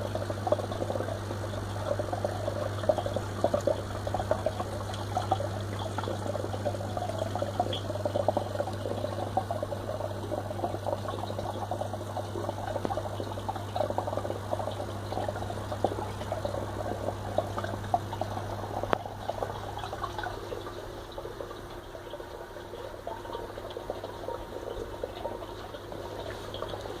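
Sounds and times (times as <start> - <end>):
aquarium filter buzzing: 0.0 - 27.0
gurgling water: 0.0 - 27.0.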